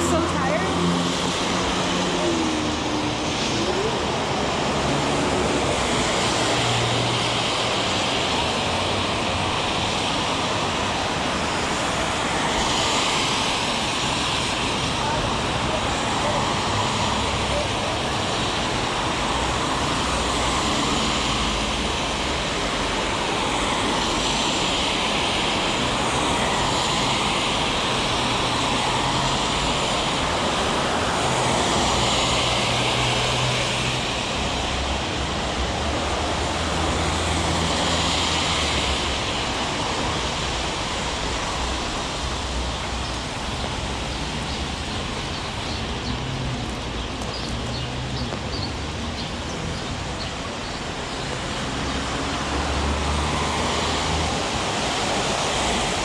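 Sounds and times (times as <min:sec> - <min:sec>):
heavy rain falling: 0:00.0 - 0:56.0
tyres hissing on wet road: 0:00.0 - 0:56.0.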